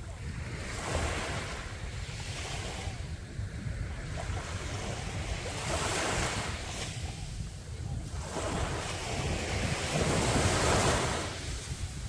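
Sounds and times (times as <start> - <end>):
sea waves breaking on beach: 0.0 - 12.0
wind rumble on microphone: 0.0 - 12.0.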